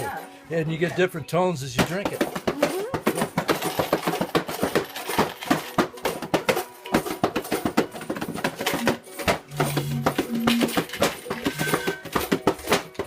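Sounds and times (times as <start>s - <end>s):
percussion on bottles: 1.7s - 13.0s.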